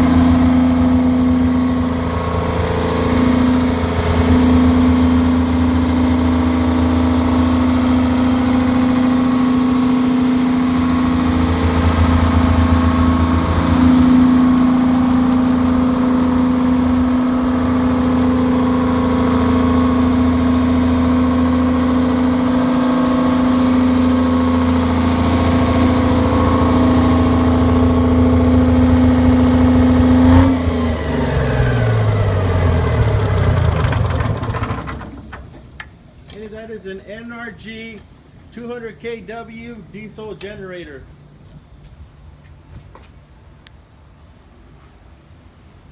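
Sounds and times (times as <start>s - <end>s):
diesel generator engine running: 0.0s - 42.5s.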